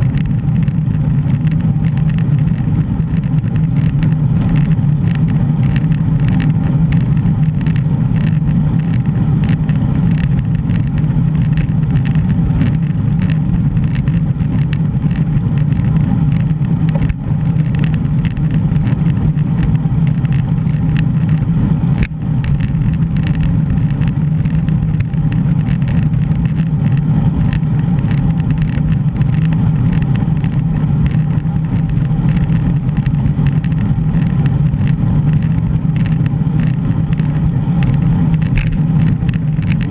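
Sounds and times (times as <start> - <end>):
small ticks: 0.0 - 39.9
wind and road rumble: 0.0 - 39.9.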